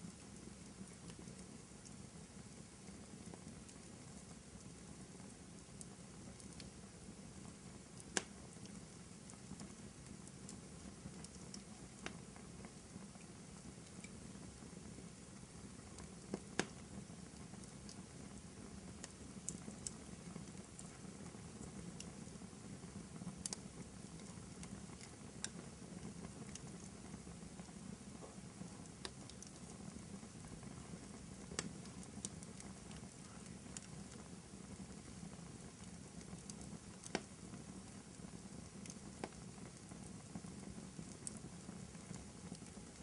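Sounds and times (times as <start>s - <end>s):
fire crackling: 0.0s - 43.0s
fire pops and snaps: 0.0s - 43.0s.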